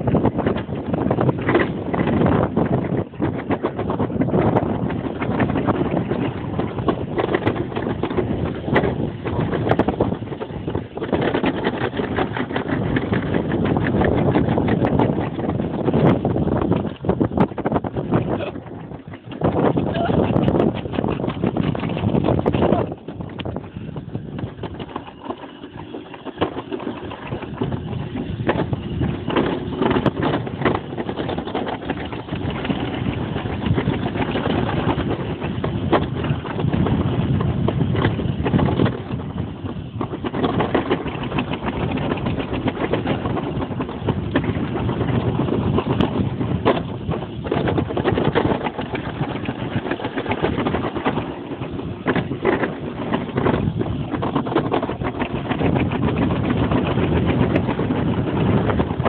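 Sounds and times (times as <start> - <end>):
bobsled rumbling down metal track: 0.0 - 59.0
sled knocking and clattering: 0.0 - 59.0.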